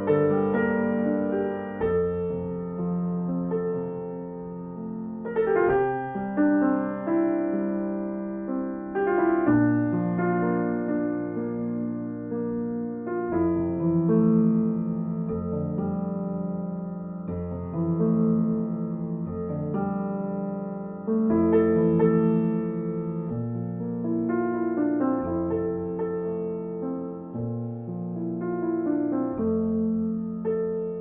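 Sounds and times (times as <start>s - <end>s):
slow piano chords: 0.0s - 31.0s.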